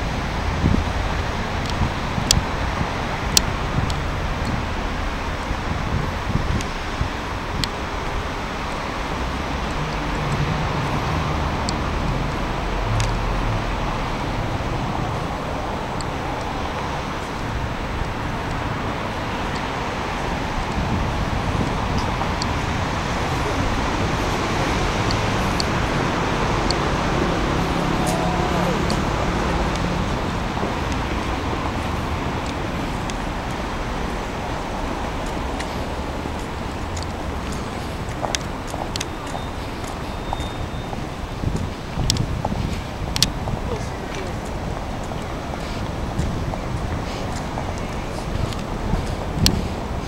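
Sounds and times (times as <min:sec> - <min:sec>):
low rumble of road traffic: 0:00.0 - 0:50.0.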